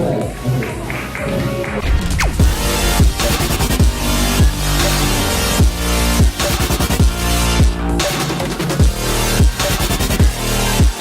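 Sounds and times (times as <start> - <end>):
sustained synth chords: 1.7 - 11.0
deep kick drum: 1.8 - 11.0.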